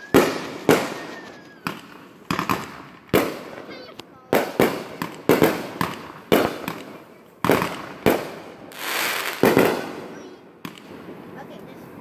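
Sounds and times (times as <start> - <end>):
crackling firework hiss: 0.0 - 12.0
fireworks exploding: 0.0 - 12.0.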